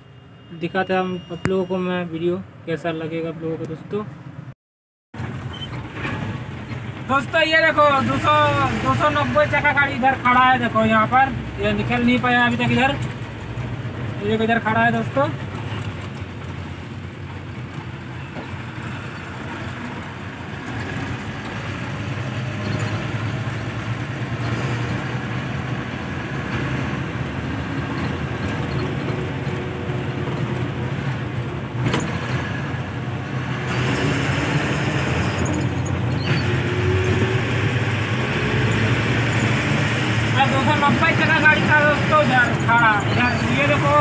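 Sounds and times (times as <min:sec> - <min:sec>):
road noise: 0:00.0 - 0:04.6, 0:05.2 - 0:44.0
diesel truck engine running: 0:05.2 - 0:44.0.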